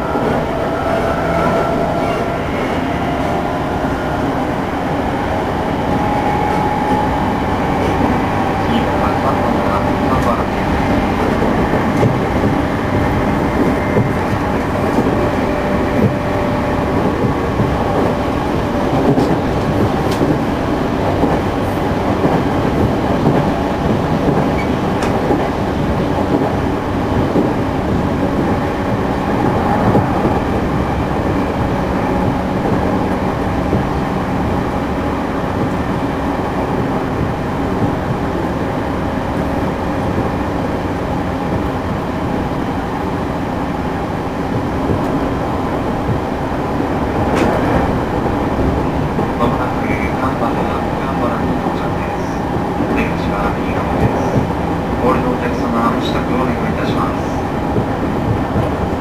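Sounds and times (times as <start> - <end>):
wheel and rail rumble: 0.0 - 59.0.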